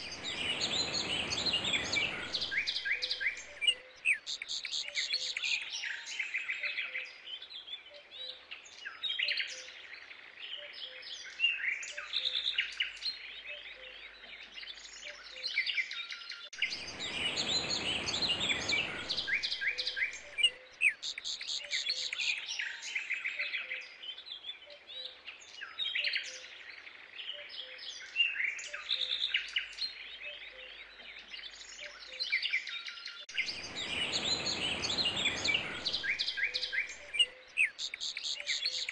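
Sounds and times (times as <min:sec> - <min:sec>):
birds chirping and singing: 0:00.0 - 0:07.0, 0:10.6 - 0:38.9.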